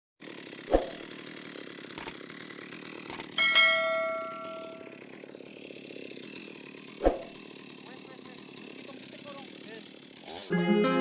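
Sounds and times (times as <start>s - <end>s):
chainsaw running: 0.2s - 11.0s.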